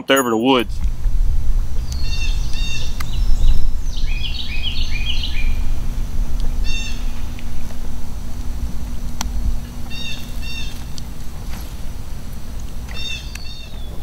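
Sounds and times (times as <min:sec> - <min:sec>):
birds chirping: 0:00.0 - 0:14.0
steady low rumble: 0:00.2 - 0:14.0.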